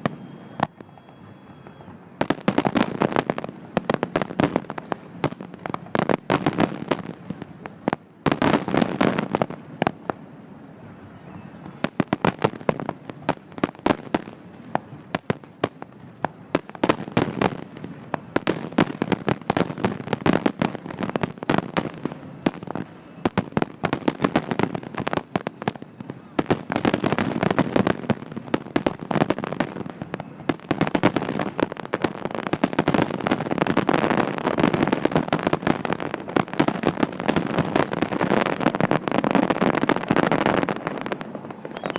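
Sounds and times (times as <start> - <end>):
fireworks cracking and popping: 0.0 - 10.3, 11.6 - 41.9.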